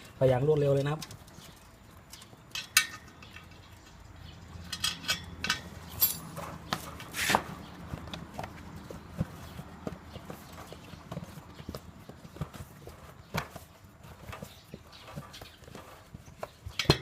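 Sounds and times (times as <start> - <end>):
tyre levers clinking on rim: 0.6 - 4.0, 4.6 - 17.0.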